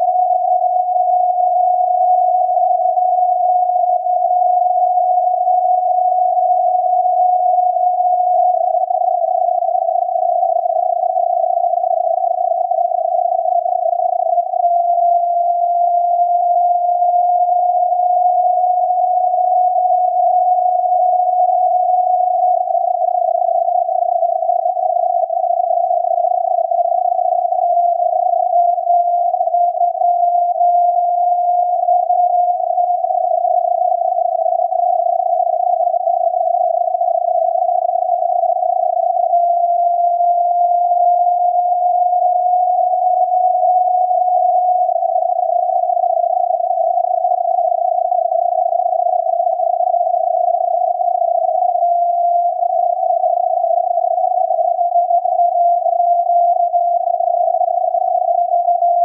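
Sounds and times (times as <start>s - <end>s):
steady radio whistle: 0.0s - 59.0s.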